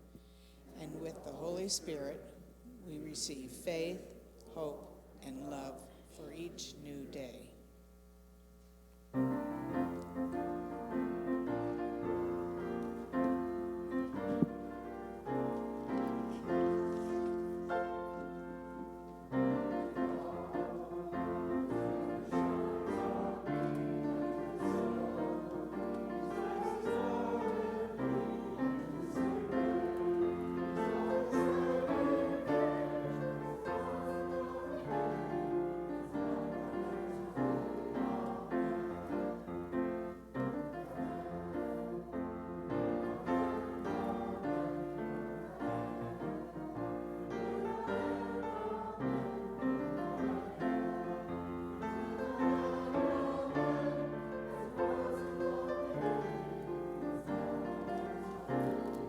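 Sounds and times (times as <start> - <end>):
slow hymn-like piano piece: 9.2 - 59.0.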